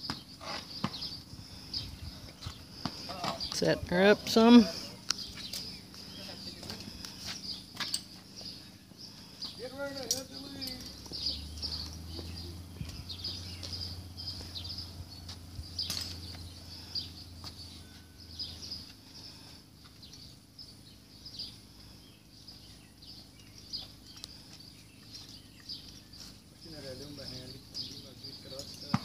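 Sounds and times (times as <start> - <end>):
low steady hum: 0.0 - 28.8
small birds chirping: 0.0 - 29.0.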